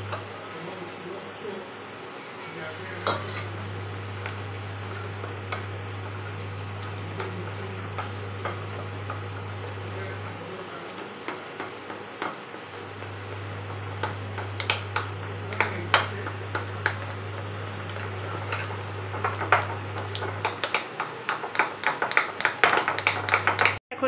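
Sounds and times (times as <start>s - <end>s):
metal spoon stirring batter in bowl: 2.8s - 23.8s.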